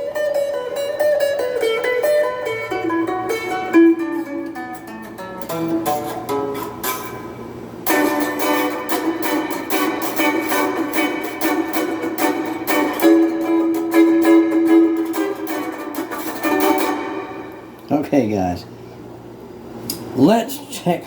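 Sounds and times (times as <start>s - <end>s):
electric guitar notes and chords: 0.0s - 17.9s.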